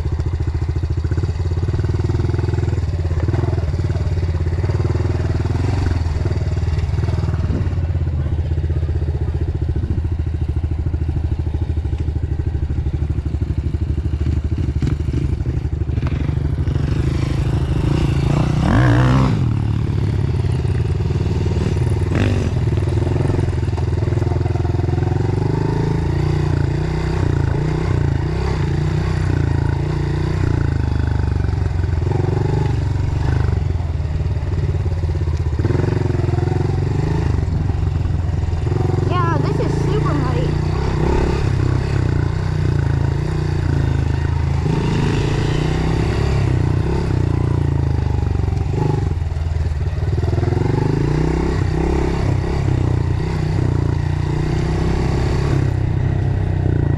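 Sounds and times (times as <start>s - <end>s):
dirt bike engine running: 0.0s - 56.9s.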